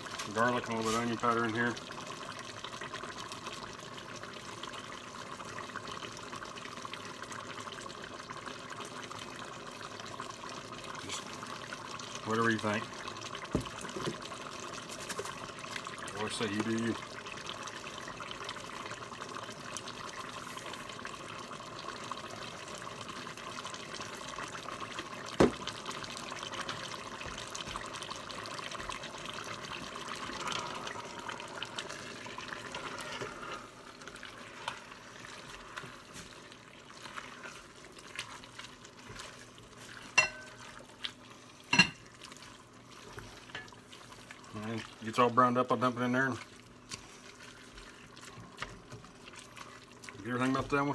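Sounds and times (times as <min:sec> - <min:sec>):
meat sizzling in a pot: 0:00.0 - 0:50.9.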